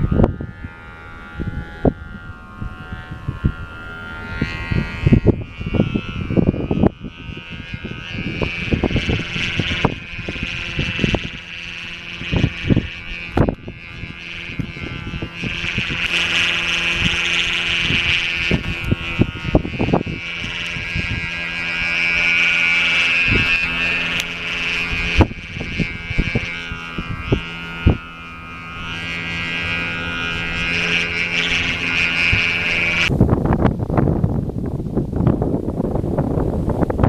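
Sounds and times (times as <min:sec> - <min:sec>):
kite hummer buzzing: 0:00.0 - 0:37.0
wind buffeting microphone: 0:00.0 - 0:37.0.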